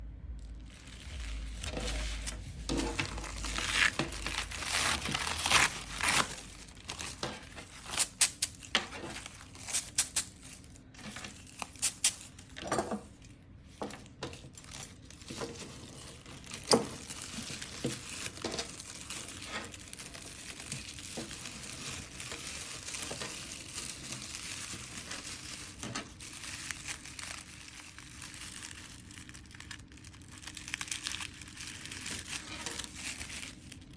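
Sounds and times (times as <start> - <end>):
paper wrap crinkling and rustling: 0.4 - 33.9.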